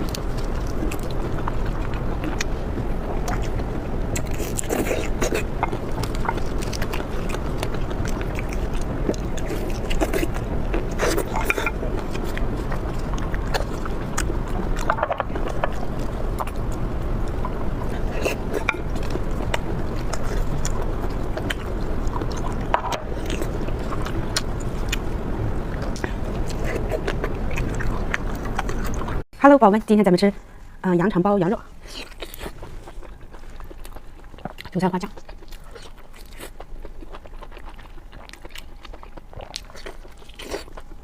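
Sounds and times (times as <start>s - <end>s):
chewing and biting: 0.0s - 29.2s, 31.8s - 41.0s.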